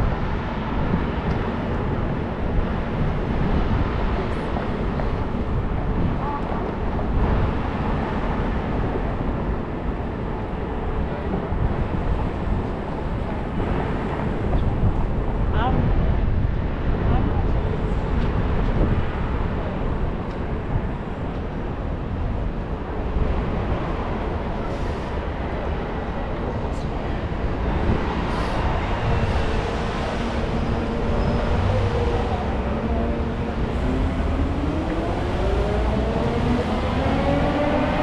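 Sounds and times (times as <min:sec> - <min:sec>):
light rail train rumbling: 0:00.0 - 0:38.0.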